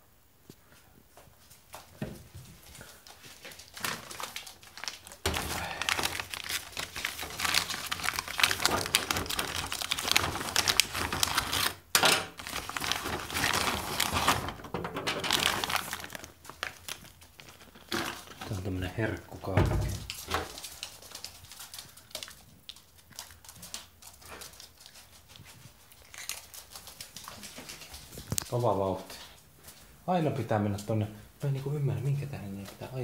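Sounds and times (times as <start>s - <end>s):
plastic bag crinkling: 2.4s - 29.4s.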